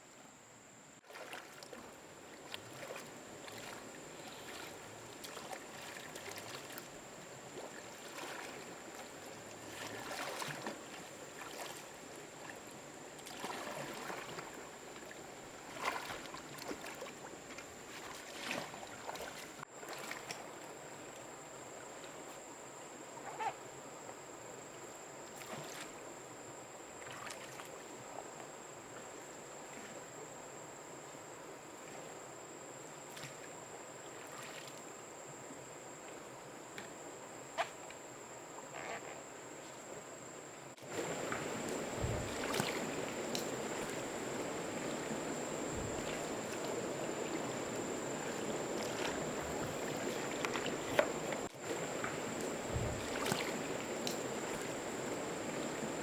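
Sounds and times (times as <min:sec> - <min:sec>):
water ambience: 0:00.0 - 0:56.0
water splashes: 0:01.0 - 0:22.4, 0:25.2 - 0:26.1, 0:26.9 - 0:30.2, 0:32.8 - 0:39.0, 0:40.8 - 0:56.0
high insect whine: 0:02.8 - 0:56.0.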